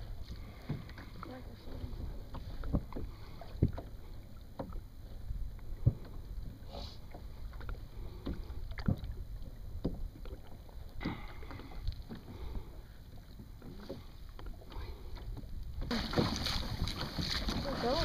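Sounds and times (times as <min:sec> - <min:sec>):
low steady rumble: 0:00.0 - 0:18.0
water slapping kayak hull: 0:00.0 - 0:18.0
light knocks or splashes: 0:00.3 - 0:04.8, 0:05.8 - 0:12.5, 0:13.2 - 0:18.0.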